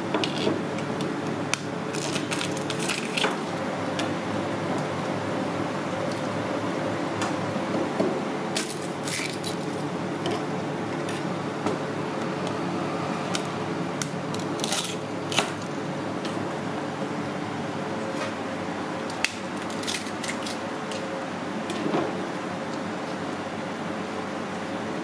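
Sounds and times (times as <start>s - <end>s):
background hiss and hum: 0.0s - 25.0s.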